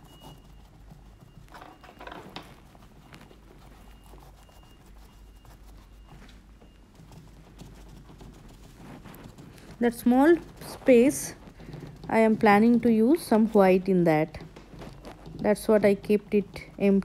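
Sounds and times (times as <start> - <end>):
sponge dabbing paint on canvas: 0.0 - 17.0.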